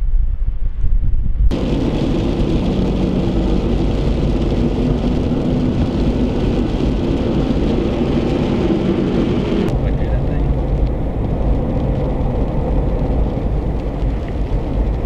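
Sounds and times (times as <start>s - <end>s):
car engine rumble: 0.1s - 15.0s
car road noise: 1.5s - 15.0s.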